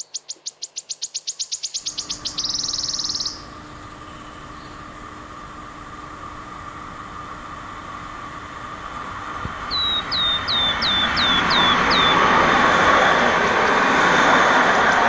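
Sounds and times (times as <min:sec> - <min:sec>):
train wheels rumbling on rails: 0:01.9 - 0:15.0.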